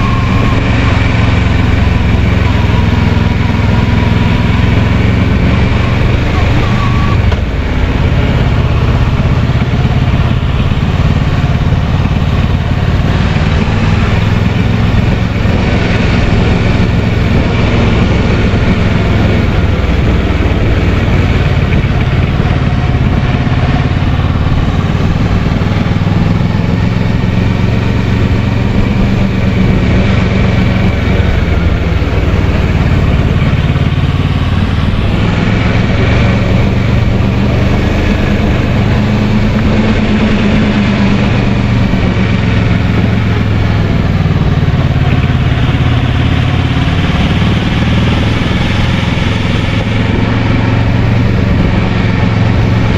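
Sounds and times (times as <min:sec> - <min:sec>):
constant rushing noise: 0:00.0 - 0:52.9
motorcycle engine running: 0:00.0 - 0:52.9.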